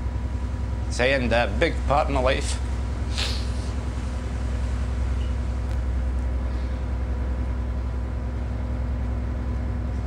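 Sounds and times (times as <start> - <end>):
boat diesel engine humming: 0.0 - 10.0.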